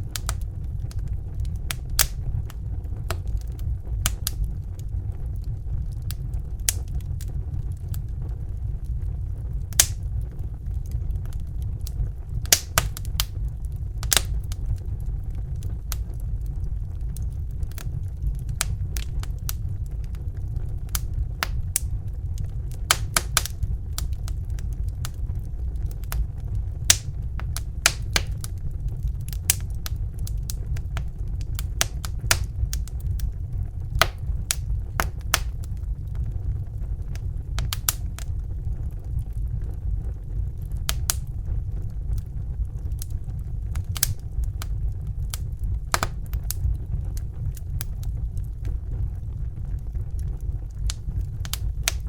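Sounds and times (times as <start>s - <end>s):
fire crackling with pops and snaps: 0.0s - 52.0s.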